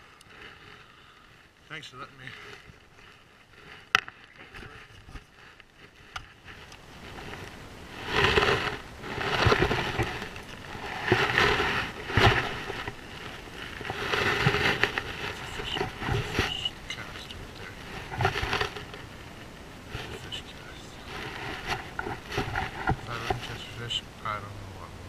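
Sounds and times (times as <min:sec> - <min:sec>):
water swishing and sloshing: 0:02.3 - 0:24.0.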